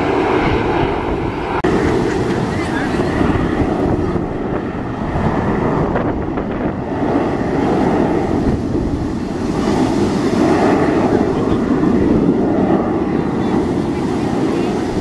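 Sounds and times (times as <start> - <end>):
jet engines roaring overhead: 0.0 - 15.0
wind buffeting microphone: 0.0 - 15.0.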